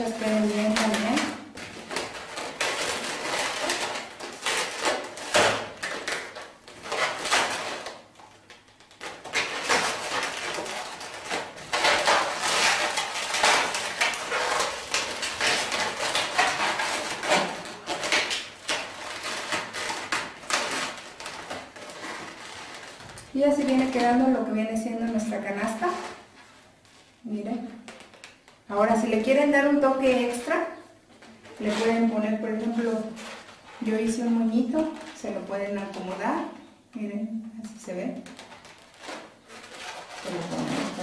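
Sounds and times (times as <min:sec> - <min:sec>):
balloons squeaking and rubbing: 0:00.0 - 0:36.8, 0:38.2 - 0:41.0.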